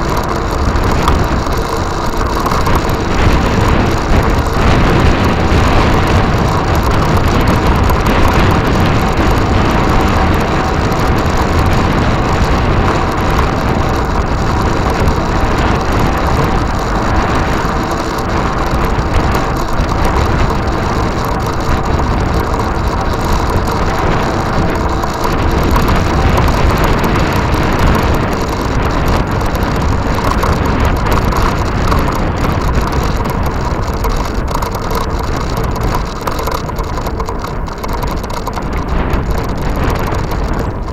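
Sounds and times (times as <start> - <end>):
road and drivetrain noise: 0.0 - 40.9
wind rushing over microphone: 0.0 - 40.9.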